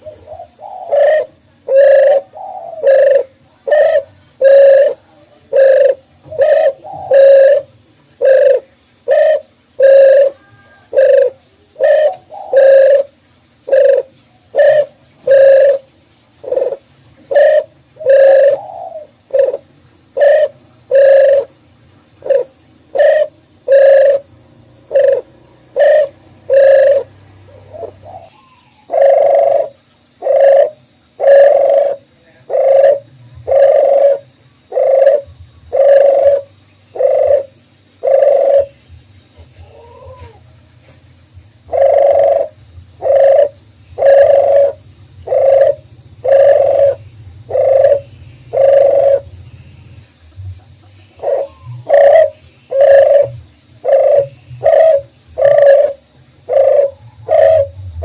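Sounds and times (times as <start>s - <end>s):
dove cooing: 0.0s - 40.6s, 41.6s - 49.4s, 50.8s - 58.0s.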